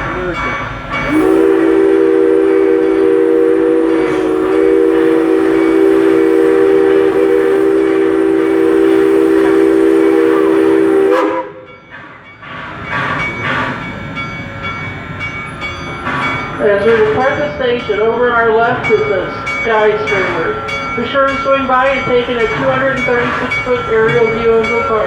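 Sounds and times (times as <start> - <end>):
steam locomotive chime whistle: 0.0 - 25.0
train noise: 0.0 - 25.0.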